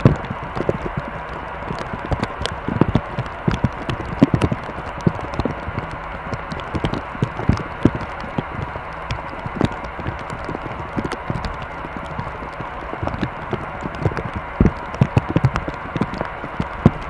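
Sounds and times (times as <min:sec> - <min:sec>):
airliner cabin hum: 0:00.0 - 0:17.0.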